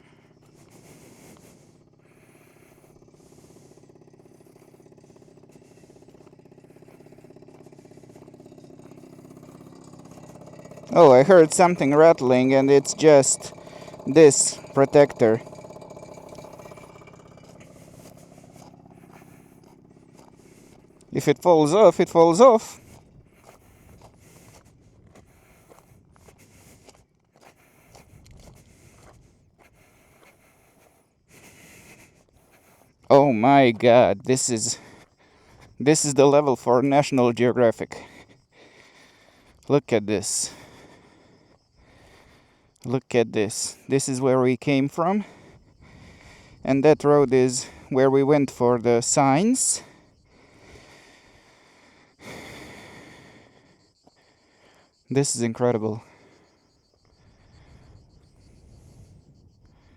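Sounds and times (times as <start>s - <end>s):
scooter engine idling: 0.0s - 59.9s.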